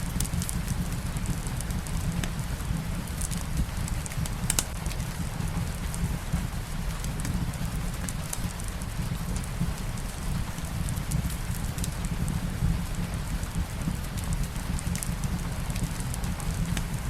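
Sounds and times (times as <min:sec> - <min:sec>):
burning wood crackling: 0:00.0 - 0:17.0
steady rain: 0:00.0 - 0:17.0.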